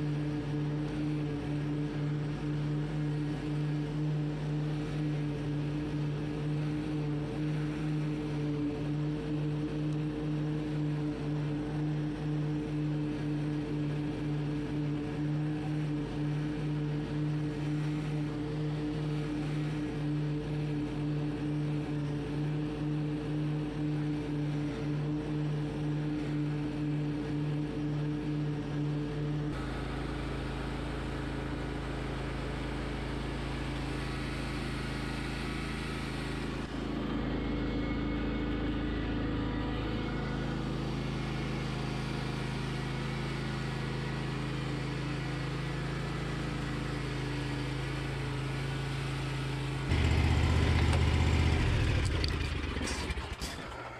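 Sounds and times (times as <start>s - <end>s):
mower engine running: 0.0s - 53.9s.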